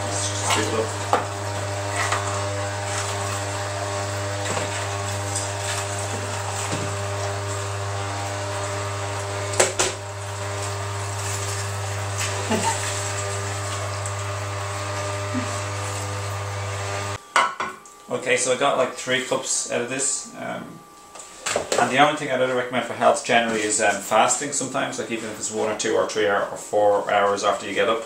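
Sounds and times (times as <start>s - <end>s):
juicer motor hum: 0.0s - 28.0s.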